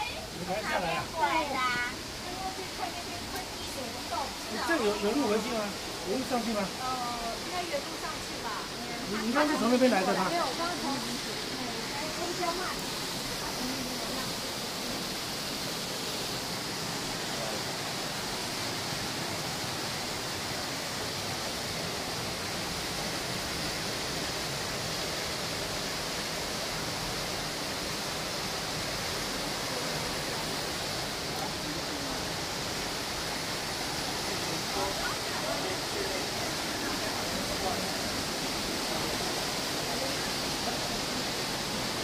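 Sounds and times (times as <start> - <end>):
waterfall rushing into a pool: 0.0 - 42.0.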